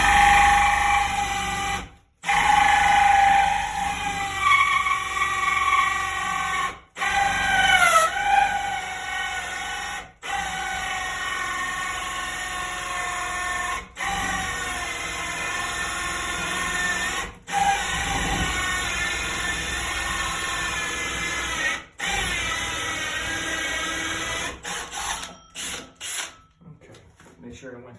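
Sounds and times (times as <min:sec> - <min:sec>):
electric drill hole saw in wood: 0:00.0 - 0:26.4.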